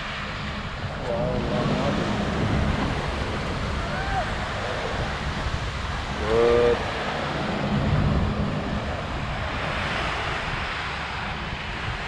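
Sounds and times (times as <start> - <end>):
low drone: 0.0 - 12.0
ocean surf washing on beach: 0.0 - 12.0
wind buffeting microphone: 0.0 - 12.0.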